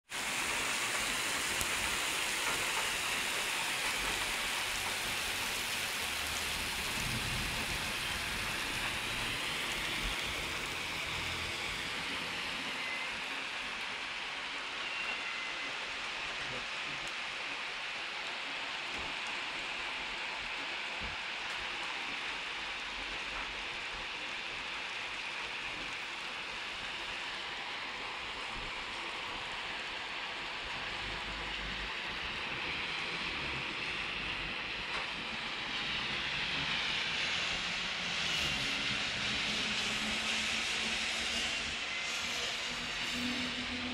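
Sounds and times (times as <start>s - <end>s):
heavy rain on asphalt: 0.1s - 43.9s.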